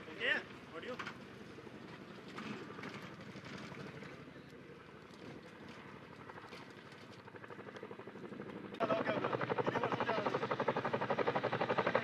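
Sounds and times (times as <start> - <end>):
helicopter rotors beating: 0.0 - 12.0.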